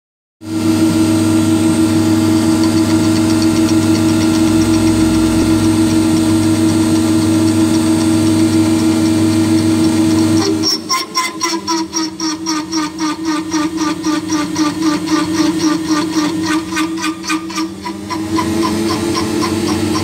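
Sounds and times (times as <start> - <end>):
milling machine hum and whine: 0.5 - 20.0.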